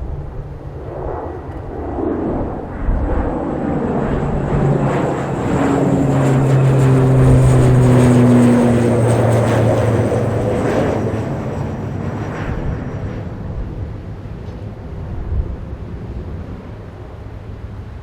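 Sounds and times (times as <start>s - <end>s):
airliner engines passing: 0.0s - 18.0s.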